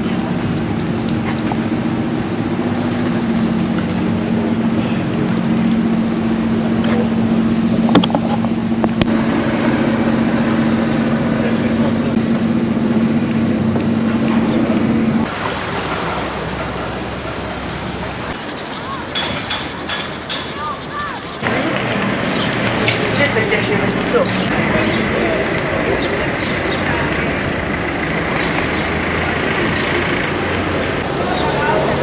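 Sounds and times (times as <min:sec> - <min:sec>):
engine humming steadily: 0:00.0 - 0:32.0.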